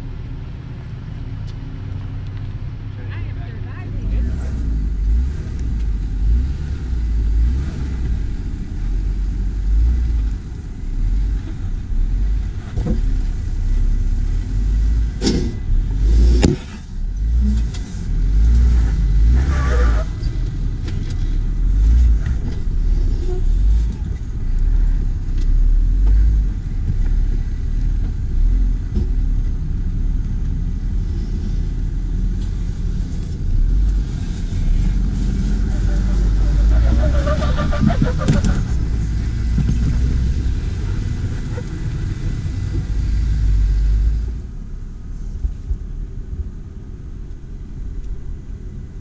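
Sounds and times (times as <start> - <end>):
vehicle engine low rumble: 0.0 - 49.0.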